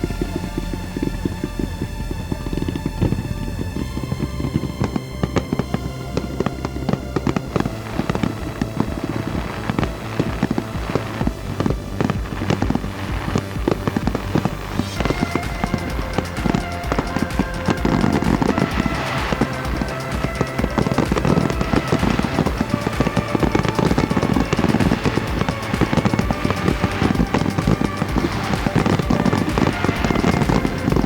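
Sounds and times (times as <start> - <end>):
fireworks crackling and banging: 0.0 - 31.0
music with held notes: 0.0 - 31.0.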